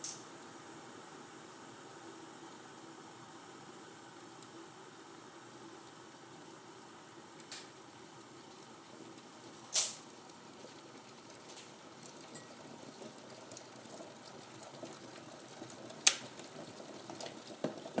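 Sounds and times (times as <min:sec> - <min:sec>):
kettle water rumbling: 0:00.0 - 0:18.0.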